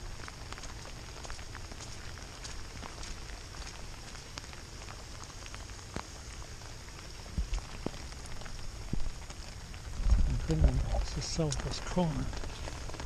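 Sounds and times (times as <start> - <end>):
raindrops tapping: 0.0 - 13.0
steady rain: 0.0 - 13.0.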